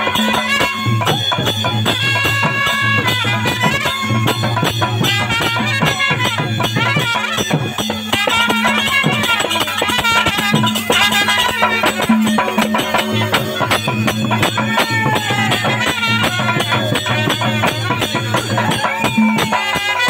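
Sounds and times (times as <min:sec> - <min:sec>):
hand drums beating: 0:00.0 - 0:20.0
trumpet melody: 0:00.0 - 0:20.0.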